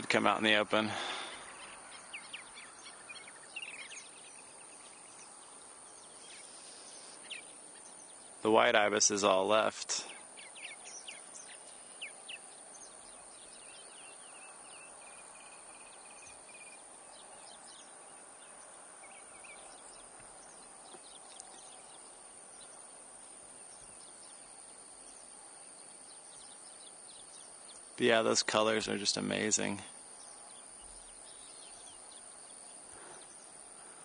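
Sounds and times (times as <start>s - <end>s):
outdoor hiss: 0.0s - 34.0s
small birds chirping: 0.0s - 34.0s.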